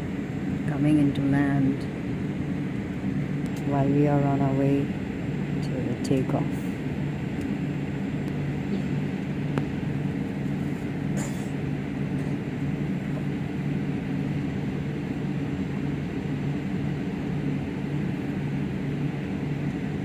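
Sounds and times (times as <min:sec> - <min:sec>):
jet engines low hum: 0:00.0 - 0:20.0.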